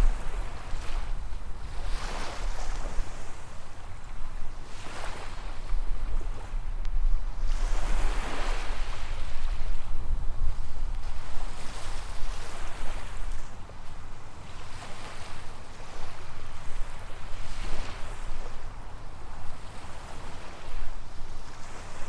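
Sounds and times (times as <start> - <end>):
small waves on sandy beach: 0.0 - 22.0
wind rumble on microphone: 0.0 - 22.0.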